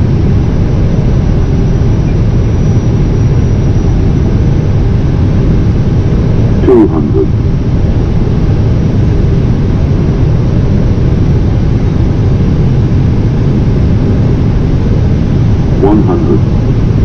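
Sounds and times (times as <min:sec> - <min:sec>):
cockpit airflow and engine rush: 0:00.0 - 0:17.0.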